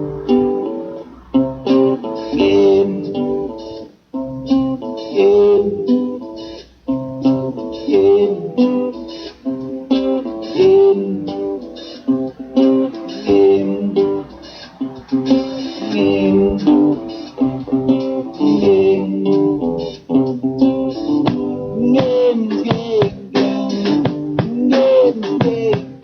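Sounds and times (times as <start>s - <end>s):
guitar playing picked notes: 0.0s - 26.0s.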